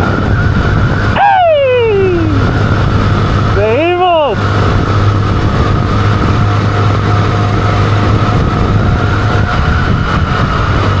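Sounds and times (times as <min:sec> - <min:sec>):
motorcycle engine drone: 0:00.0 - 0:11.0
wind rushing over microphone: 0:00.0 - 0:11.0.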